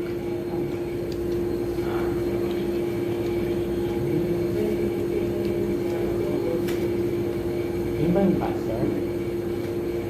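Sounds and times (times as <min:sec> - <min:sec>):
mechanical hum with pitched tone: 0:00.0 - 0:10.0.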